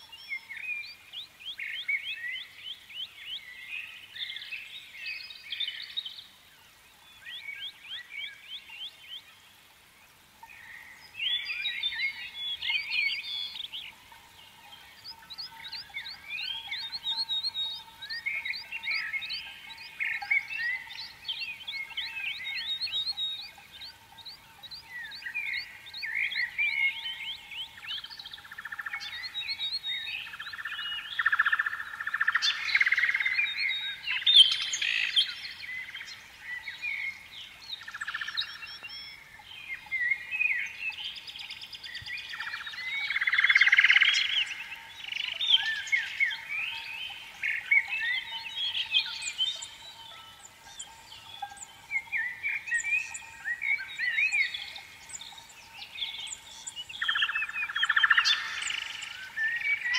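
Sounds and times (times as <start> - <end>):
birds chirping and singing: 10.4 - 59.9.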